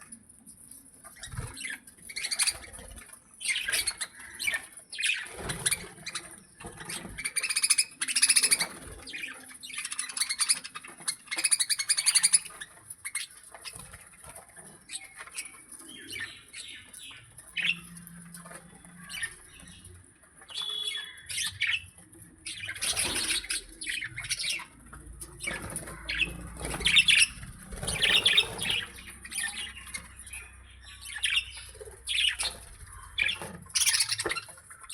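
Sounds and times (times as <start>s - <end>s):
birds chirping and squawking: 0.0s - 34.9s.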